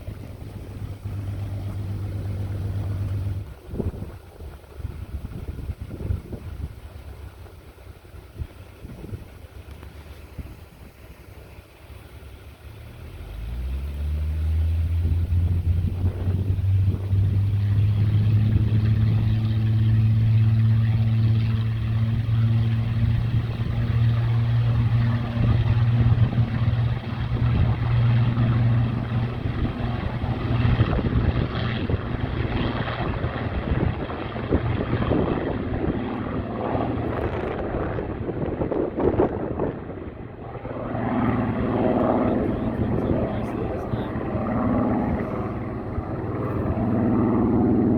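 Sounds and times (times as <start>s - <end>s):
propeller plane engine drone: 0.0s - 47.9s.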